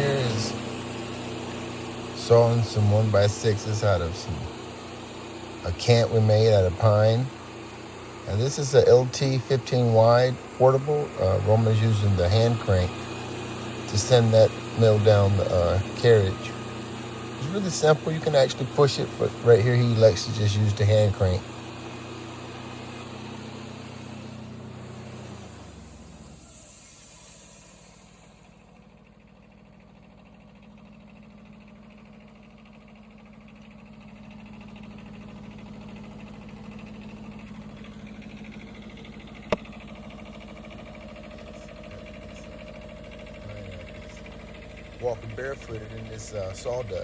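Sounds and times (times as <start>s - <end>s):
sawmill engine running: 0.0s - 47.0s.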